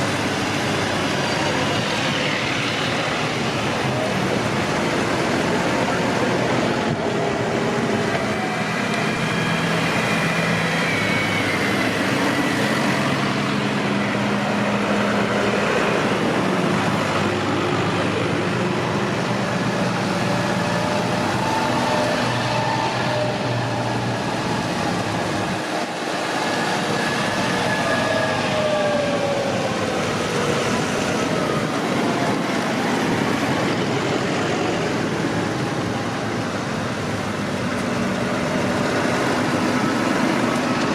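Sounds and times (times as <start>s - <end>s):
tractor engines driving past: 0.0s - 40.9s.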